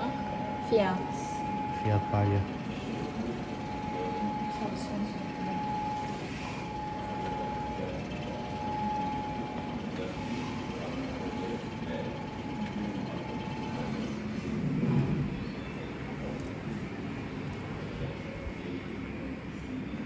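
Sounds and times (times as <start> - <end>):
faint distant voices: 0.0 - 20.0
indoor hall background noise: 0.0 - 20.0
thin steady whine: 0.0 - 20.0.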